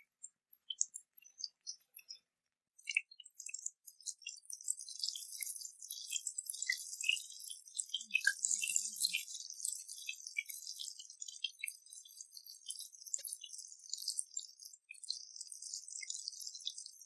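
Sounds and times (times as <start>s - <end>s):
prawns frying in oil: 2.9s - 17.0s.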